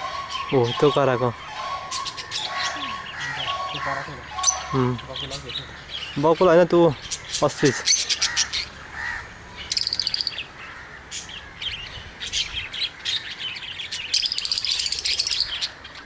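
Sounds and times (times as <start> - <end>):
small parrots chirping in trills: 0.0 - 16.0.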